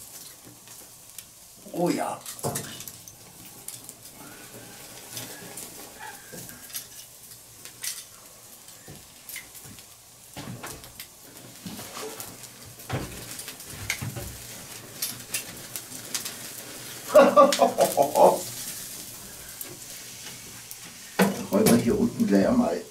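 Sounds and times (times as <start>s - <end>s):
fire crackling and popping: 0.0s - 22.9s
meat sizzling on grill: 0.0s - 22.9s.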